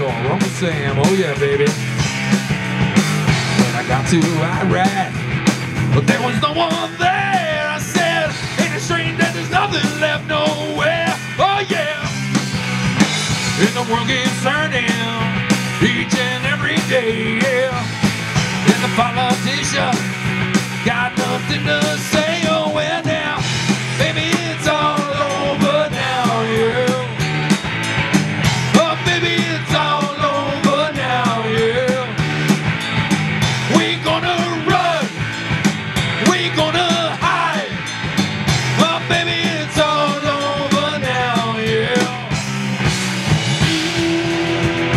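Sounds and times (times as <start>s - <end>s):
bending lead guitar line: 0.0s - 44.9s
live rock band playing: 0.0s - 44.9s.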